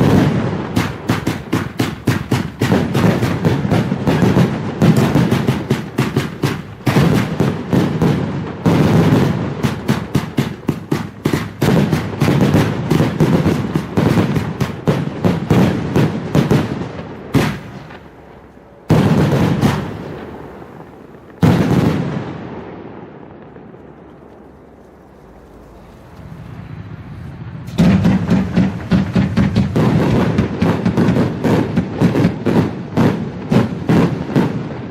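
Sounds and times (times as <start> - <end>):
fireworks battery firing: 0.0 - 34.9.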